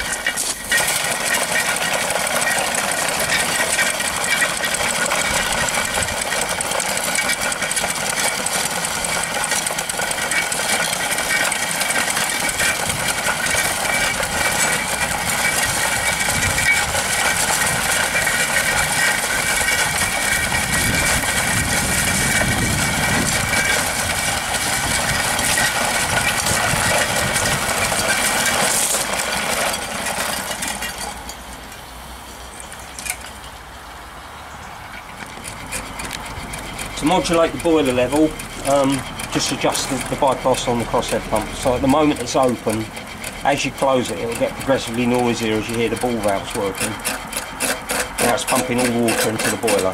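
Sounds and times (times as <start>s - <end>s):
steam engine running: 0.0s - 33.6s, 34.8s - 49.9s.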